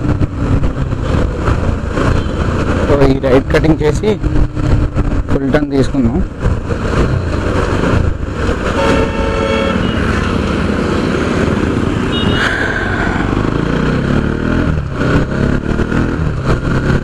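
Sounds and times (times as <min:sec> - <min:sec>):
motorcycle engine at low speed: 0:00.0 - 0:17.0
road noise: 0:00.0 - 0:17.0.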